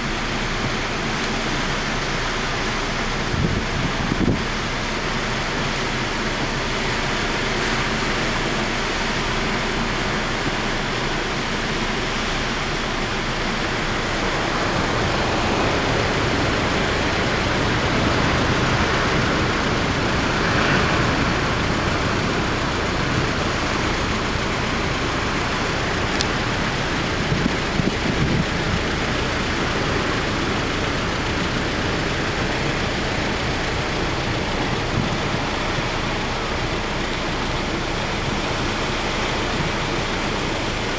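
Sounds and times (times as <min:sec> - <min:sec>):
heavy surf: 0:00.0 - 0:40.9
strong wind: 0:00.0 - 0:40.9
wind buffeting microphone: 0:00.0 - 0:40.9.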